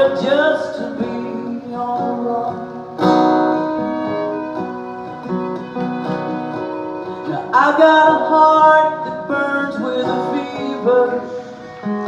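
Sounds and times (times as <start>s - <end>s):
acoustic guitar strumming: 0.0s - 12.0s
fiddle: 0.0s - 12.0s.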